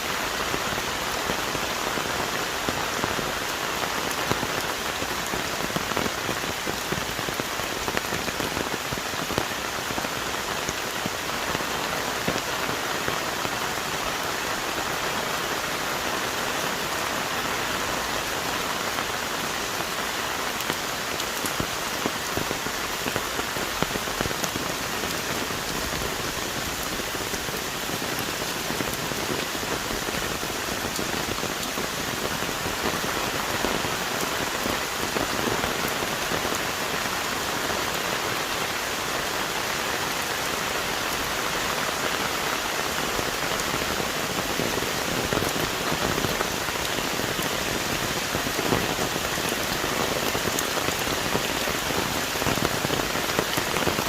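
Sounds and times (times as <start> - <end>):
heavy rain on trees: 0.0 - 54.0.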